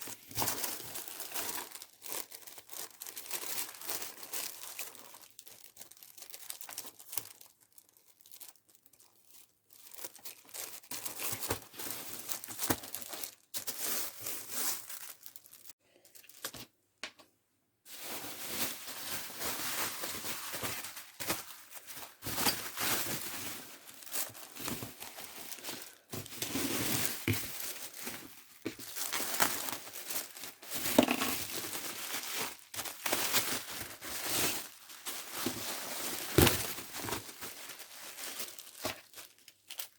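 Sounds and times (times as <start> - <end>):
packing material crinkling: 0.0 - 16.6, 17.9 - 39.9.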